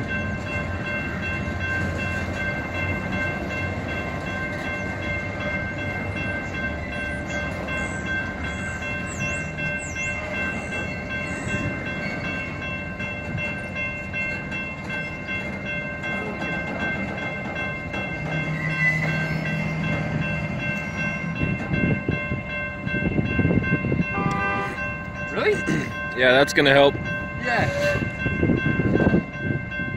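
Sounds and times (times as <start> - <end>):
train knocks: 0.0 - 27.0
freight train rolling: 0.0 - 29.9.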